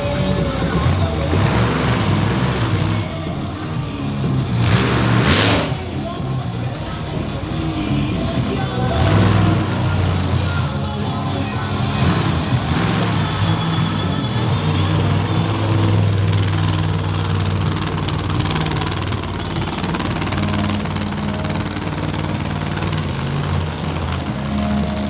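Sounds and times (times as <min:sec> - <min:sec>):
truck engines idling: 0:00.0 - 0:25.0.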